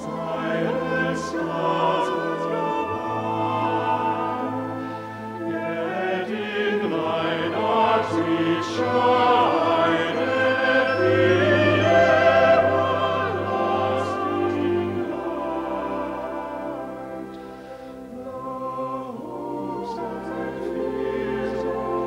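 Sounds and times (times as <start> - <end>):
choir and operatic voices: 0.0 - 22.0
orchestral music: 0.0 - 22.0.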